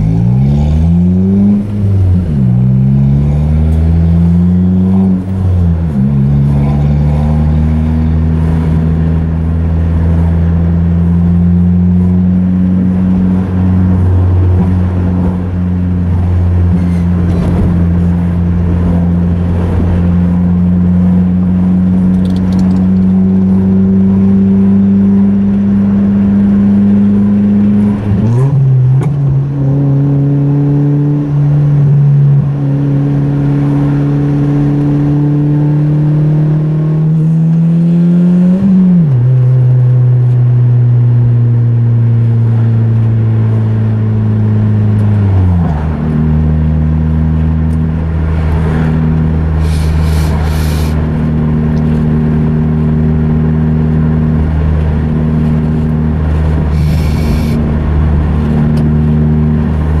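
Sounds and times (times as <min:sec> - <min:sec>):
car engine droning: 0:00.0 - 1:00.0.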